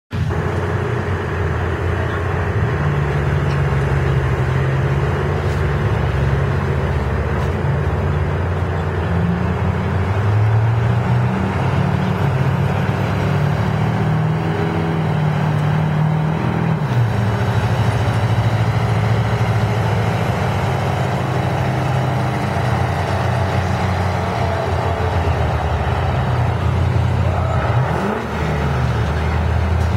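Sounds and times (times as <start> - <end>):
truck engine revving under load: 0.1 - 29.9.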